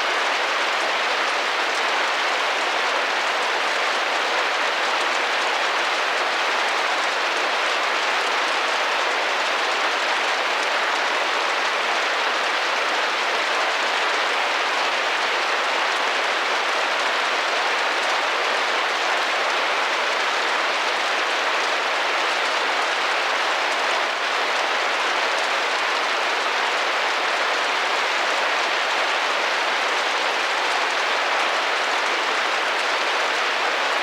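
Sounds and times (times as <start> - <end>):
rain pattering on a window: 0.0 - 34.0.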